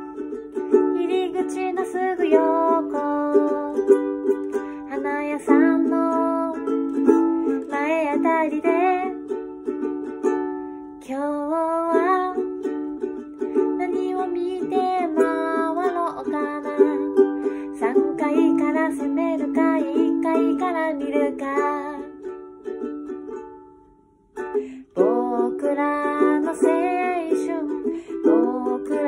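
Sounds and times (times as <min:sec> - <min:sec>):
woman singing: 0:00.0 - 0:09.4, 0:11.0 - 0:22.3, 0:24.8 - 0:29.0
ukulele playing chords: 0:00.0 - 0:29.0.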